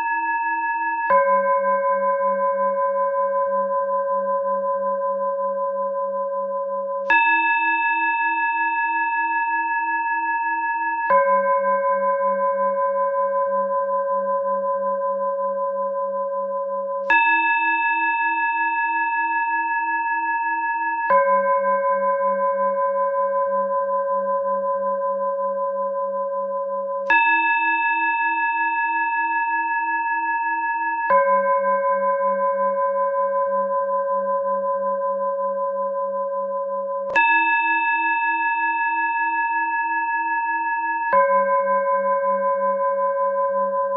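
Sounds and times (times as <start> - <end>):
singing bowl tones: 0.0 - 43.9.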